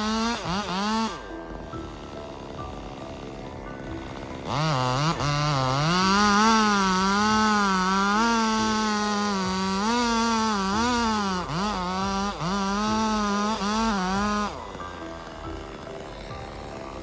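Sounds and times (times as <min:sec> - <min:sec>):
chainsaw running at high revs: 0:00.0 - 0:17.0.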